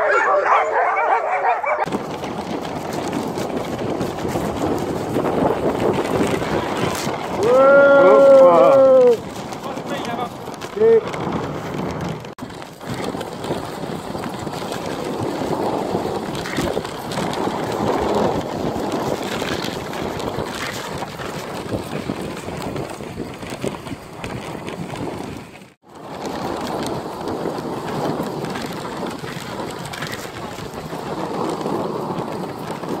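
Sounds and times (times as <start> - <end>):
sled runners scraping on snow: 0.0 - 33.0
wind buffeting microphone: 0.0 - 33.0.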